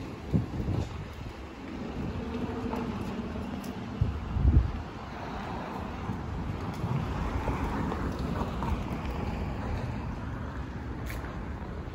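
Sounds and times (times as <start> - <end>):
traffic hum: 0.0 - 11.9
wind rumbling on microphone: 0.0 - 11.9.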